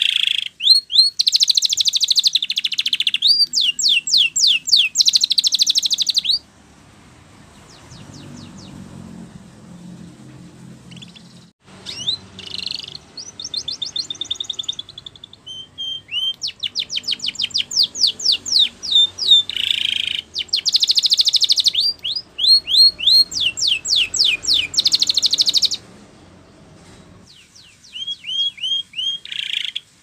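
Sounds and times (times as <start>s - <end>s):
canary singing trills: 0.0s - 6.5s, 7.4s - 30.0s.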